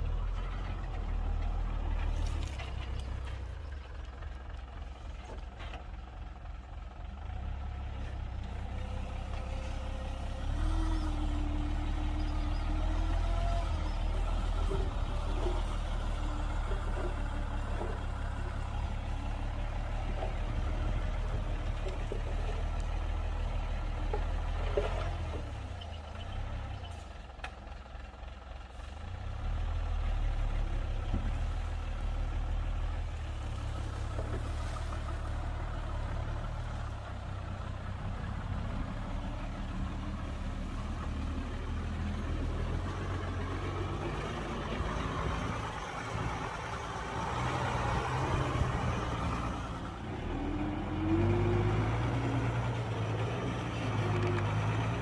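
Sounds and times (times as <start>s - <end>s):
heavy diesel engine humming: 0.0s - 55.0s.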